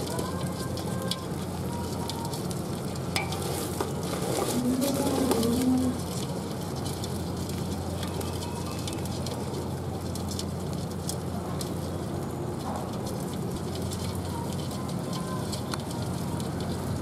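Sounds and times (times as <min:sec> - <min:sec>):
crabs crackling in hot pot: 0:00.0 - 0:17.0
gas burner running: 0:00.0 - 0:17.0.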